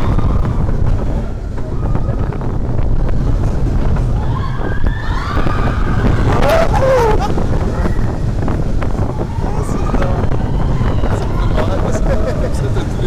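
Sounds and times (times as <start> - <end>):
roller coaster rumble: 0.0 - 13.0
wind buffeting microphone: 0.0 - 13.0.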